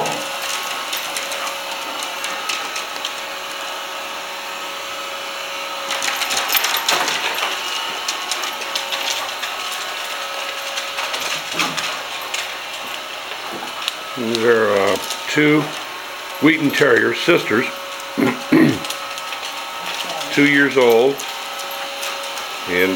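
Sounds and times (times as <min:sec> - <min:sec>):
robot vacuum whirring: 0:00.0 - 0:22.9.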